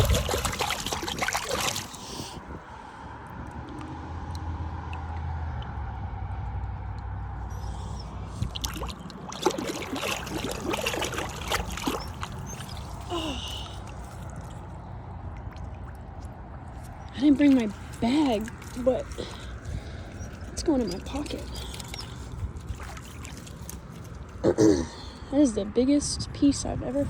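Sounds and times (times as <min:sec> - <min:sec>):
water trickling and splashing: 0:00.0 - 0:26.1.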